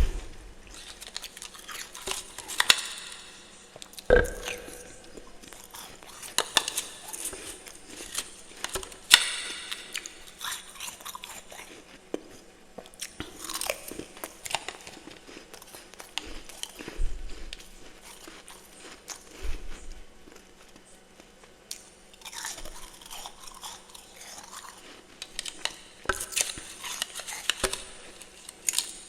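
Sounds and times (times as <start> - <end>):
crunching frost being chewed: 0.0 - 29.0.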